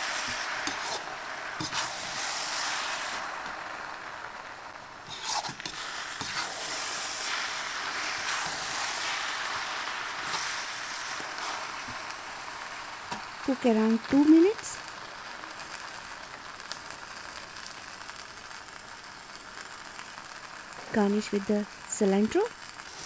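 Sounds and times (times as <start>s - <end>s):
noodles sizzling in a pan: 0.0s - 23.0s.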